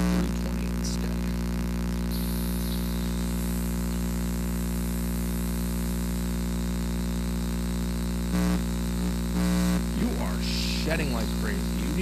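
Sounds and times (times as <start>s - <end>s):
electrical hum and buzz: 0.0s - 12.0s.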